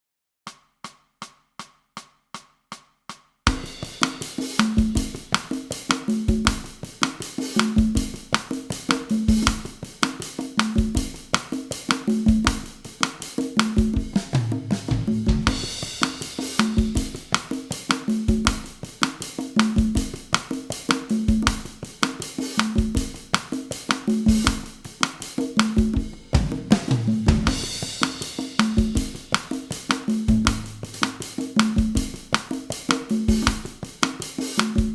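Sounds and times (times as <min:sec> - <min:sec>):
drum kit groove: 0:00.5 - 0:34.9
congas playing: 0:03.5 - 0:34.9.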